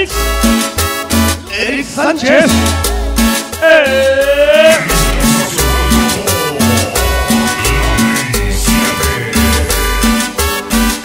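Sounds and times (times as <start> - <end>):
latin dance music: 0.0 - 11.0.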